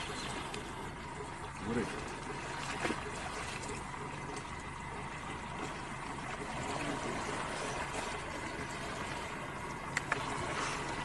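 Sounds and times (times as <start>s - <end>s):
boat motor hum: 0.0s - 11.0s
river water: 0.0s - 11.0s.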